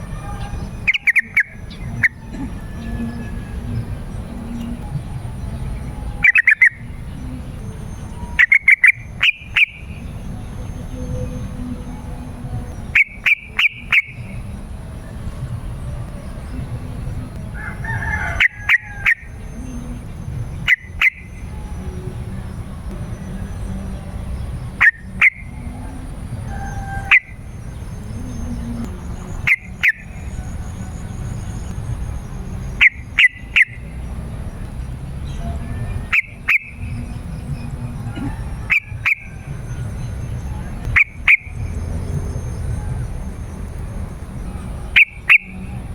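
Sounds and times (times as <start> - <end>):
steady low rumble: 0.0 - 45.9.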